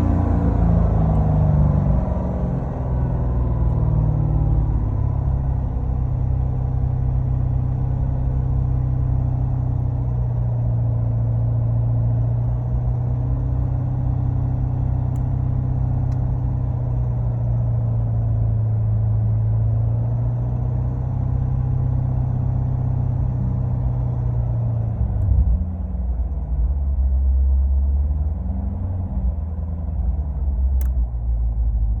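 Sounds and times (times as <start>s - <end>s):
car engine running at low revs: 0.0s - 32.0s.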